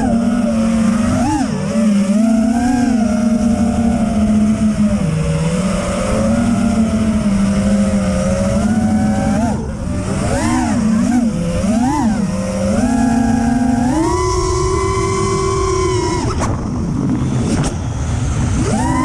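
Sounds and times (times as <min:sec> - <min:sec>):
drone motors whining: 0:00.0 - 0:19.0
wind rush on microphone: 0:00.0 - 0:19.0.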